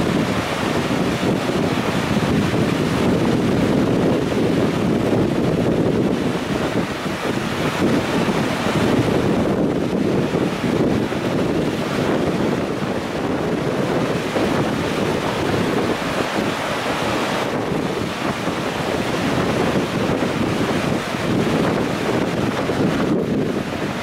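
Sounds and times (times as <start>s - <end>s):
river rushing: 0.0s - 24.0s
wind buffeting microphone: 0.0s - 24.0s.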